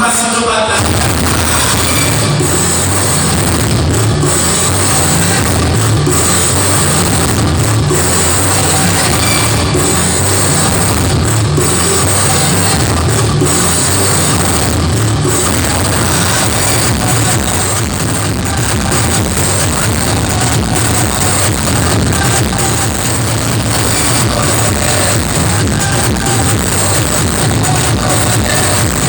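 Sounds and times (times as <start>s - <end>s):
loud music with drum beat: 0.0s - 29.0s.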